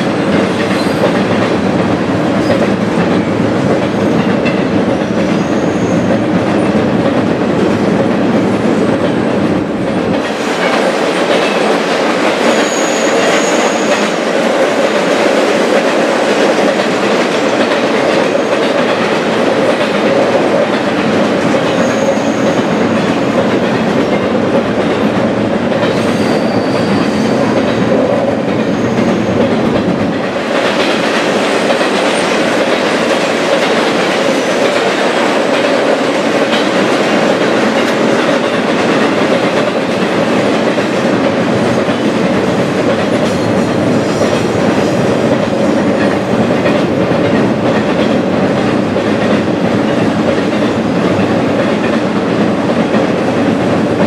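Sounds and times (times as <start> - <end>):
train rumbling across steel bridge: 0.0 - 54.0.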